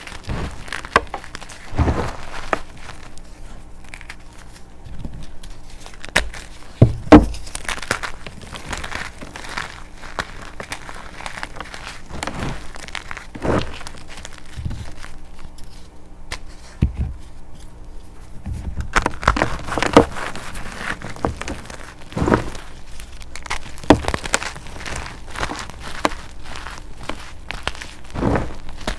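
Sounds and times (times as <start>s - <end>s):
chalk crunching by hand: 0.0s - 16.8s, 19.0s - 28.9s.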